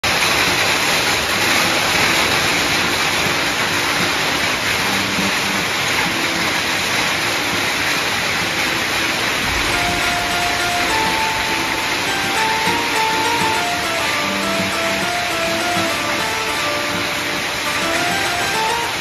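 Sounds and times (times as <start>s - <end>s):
hail and heavy rain on paving: 0.0s - 19.0s.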